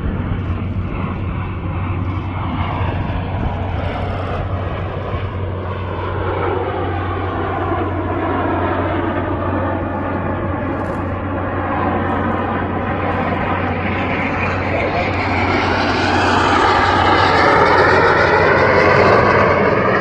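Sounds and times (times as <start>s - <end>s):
jets flying by: 0.0s - 20.0s
steady low hum: 0.0s - 20.0s.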